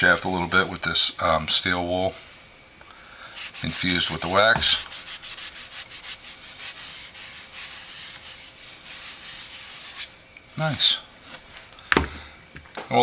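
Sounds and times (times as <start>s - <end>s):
steel wool rubbing on metal: 0.0s - 2.5s, 3.2s - 11.6s.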